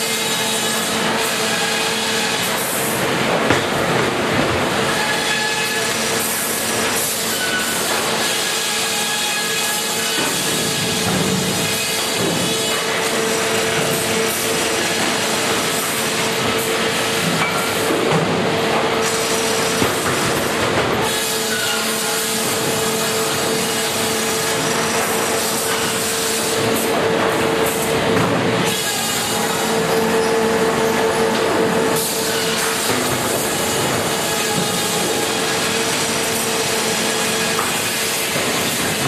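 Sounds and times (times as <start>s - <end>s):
sawmill machinery din: 0.0s - 39.0s.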